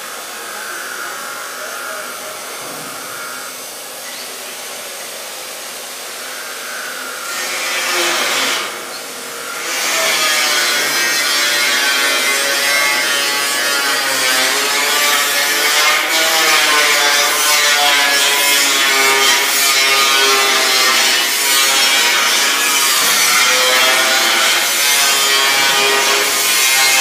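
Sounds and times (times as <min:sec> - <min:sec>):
power tool on steel sheet: 0:00.0 - 0:27.0.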